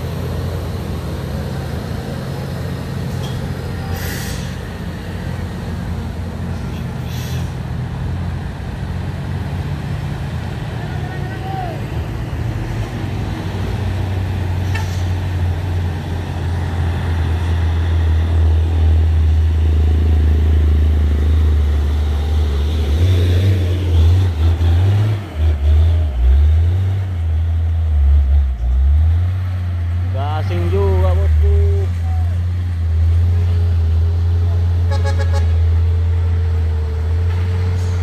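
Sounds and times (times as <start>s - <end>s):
truck diesel engine labouring: 0.0s - 38.0s.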